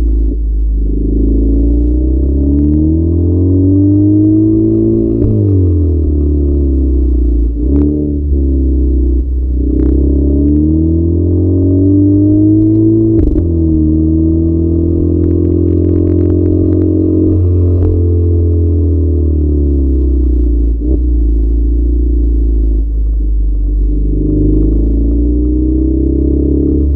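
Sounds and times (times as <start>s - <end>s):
car engine exhaust: 0.0s - 26.9s.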